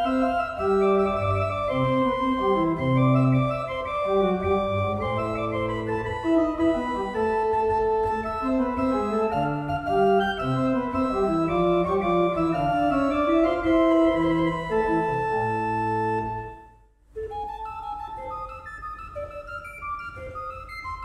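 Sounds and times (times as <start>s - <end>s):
organ music: 0.0s - 21.0s.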